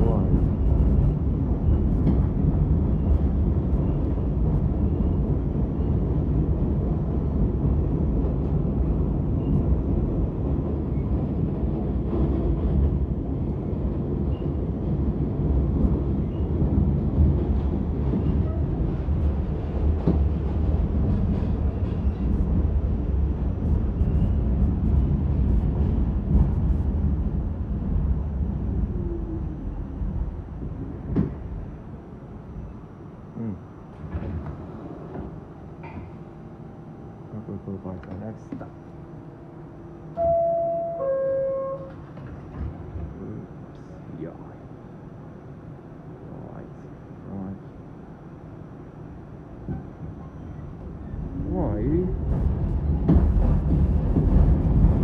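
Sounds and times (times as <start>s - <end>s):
train wheels rumbling on rail: 0.0s - 40.3s, 41.6s - 55.0s.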